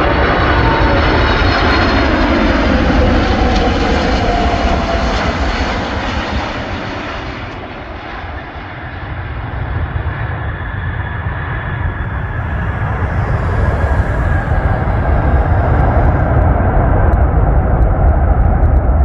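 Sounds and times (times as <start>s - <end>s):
jet engines whining and rushing: 0.0s - 19.0s.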